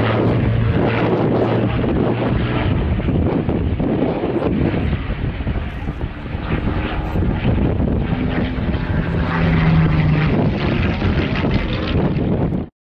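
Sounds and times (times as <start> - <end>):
piston aero engine and propeller: 0.0 - 12.7.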